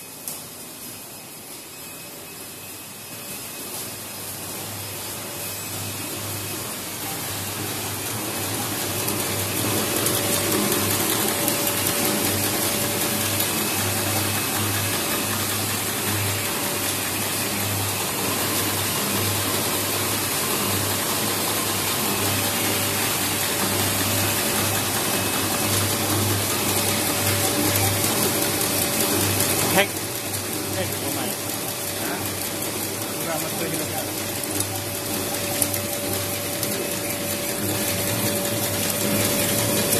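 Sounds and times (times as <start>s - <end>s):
machine whirring: 0.0s - 39.9s.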